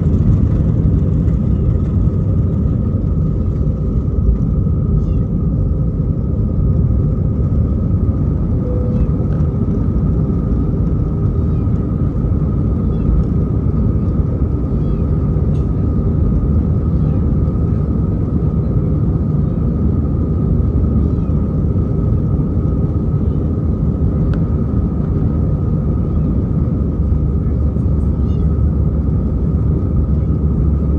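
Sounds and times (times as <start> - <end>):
aircraft engines rumbling: 0.0 - 30.9
constant high hum: 0.0 - 30.9.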